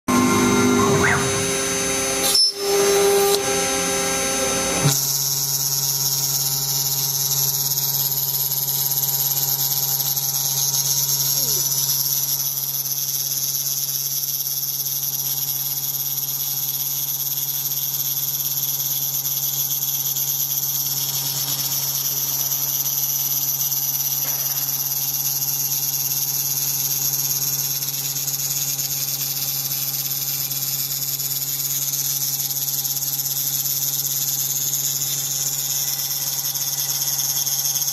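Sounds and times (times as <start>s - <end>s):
cnc router high whine: 0.1s - 37.9s
noisy machining: 0.1s - 37.9s.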